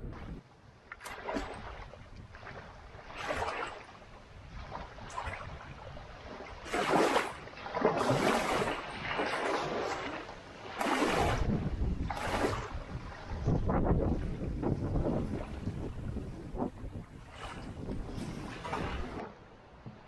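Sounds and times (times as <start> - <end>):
lake waves washing on shore: 0.0 - 20.0
wind rumbling on microphone: 0.0 - 20.0.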